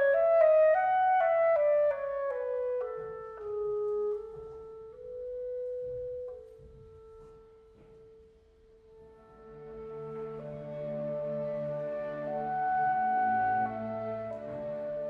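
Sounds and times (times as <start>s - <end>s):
solo clarinet slow notes: 0.0s - 8.0s, 8.9s - 15.0s
faint orchestral accompaniment: 0.0s - 15.0s.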